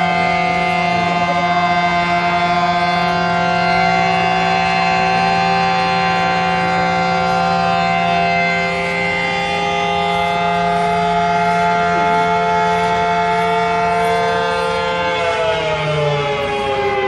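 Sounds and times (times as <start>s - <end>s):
air raid siren wailing: 0.0s - 17.0s.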